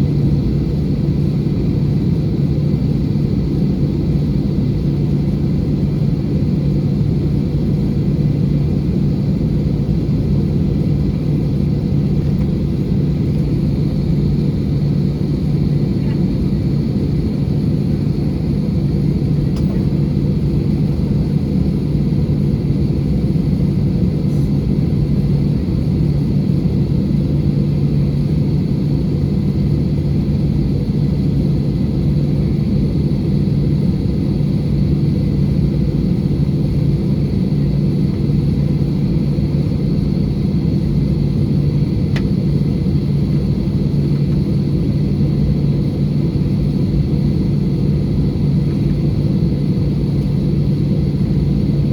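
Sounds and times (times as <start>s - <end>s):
aircraft cabin engine rumble: 0.0s - 51.9s.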